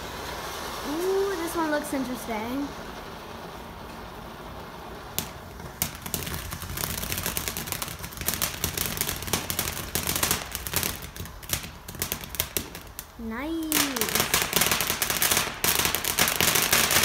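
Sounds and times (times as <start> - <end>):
fireworks hissing: 0.0 - 17.0.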